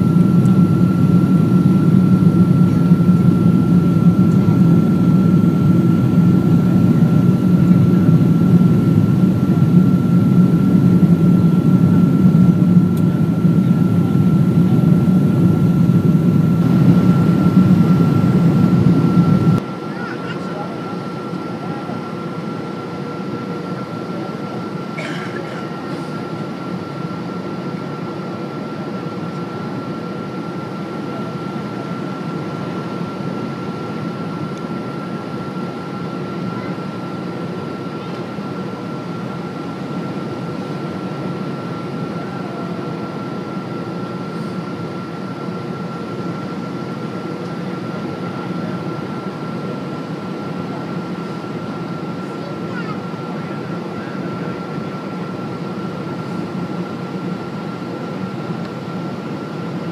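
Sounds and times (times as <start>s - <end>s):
airplane cabin engine and airflow rush: 0.0s - 59.9s.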